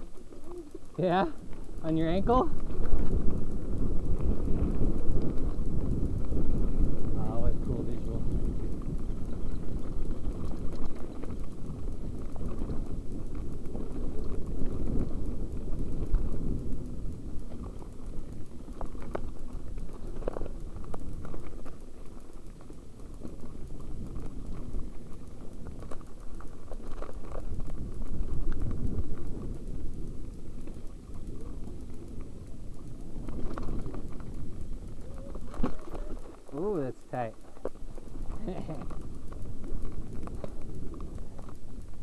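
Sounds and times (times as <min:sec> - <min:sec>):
sharp clicks: 0:00.0 - 0:42.0
tyres rumbling on gravelly dirt: 0:00.0 - 0:42.0.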